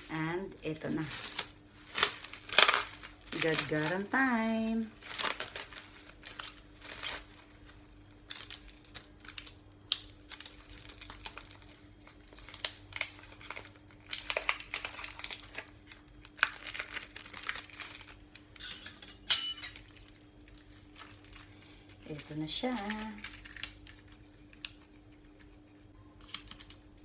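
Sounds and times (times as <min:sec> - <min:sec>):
wrapper crinkling: 0:00.7 - 0:18.6, 0:19.8 - 0:26.8.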